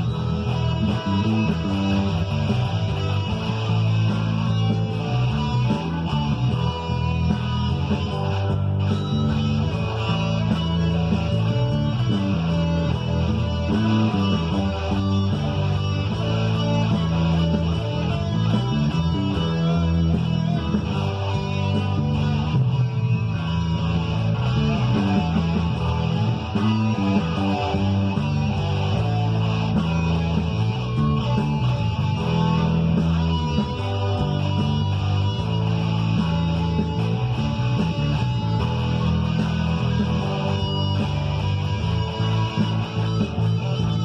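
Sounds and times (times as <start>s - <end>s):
electric guitar playing: 0.0s - 44.0s
rock backing track with bass: 0.0s - 44.0s.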